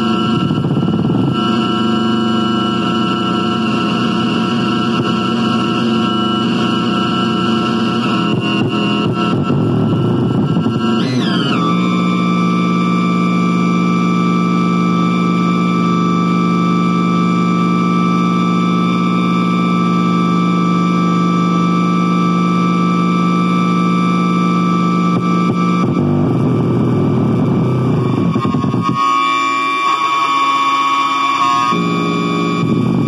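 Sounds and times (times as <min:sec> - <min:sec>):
loud electronic noise drone: 0:00.0 - 0:33.0.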